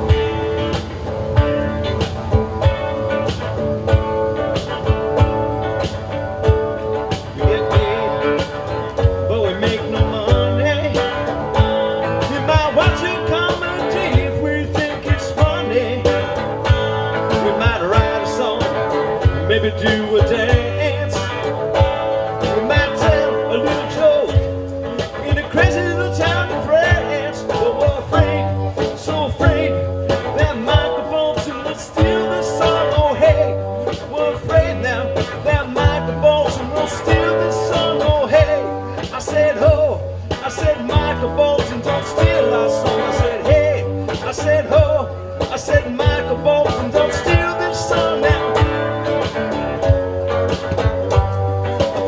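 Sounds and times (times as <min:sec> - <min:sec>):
guitar: 0:00.0 - 0:52.0
pulsing bass line: 0:00.0 - 0:52.0
steady beat: 0:00.0 - 0:52.0.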